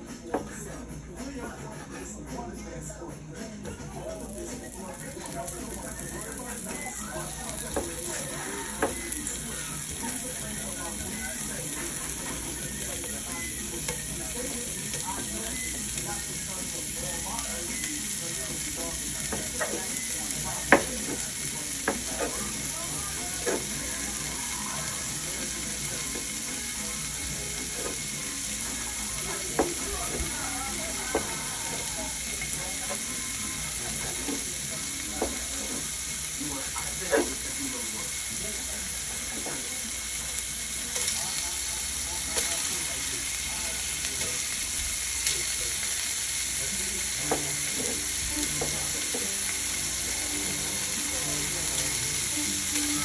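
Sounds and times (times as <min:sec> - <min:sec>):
food sizzling in a hot pan: 0:03.8 - 0:53.0.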